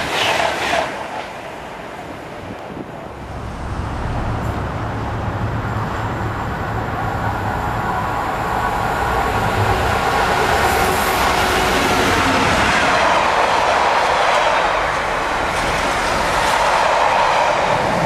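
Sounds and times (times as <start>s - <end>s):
diesel locomotive engine: 0.0s - 18.0s
rail noise: 0.0s - 18.0s.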